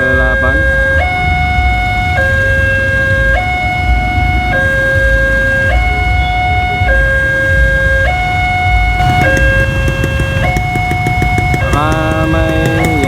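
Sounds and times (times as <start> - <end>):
two-tone crossing siren: 0.0 - 13.0.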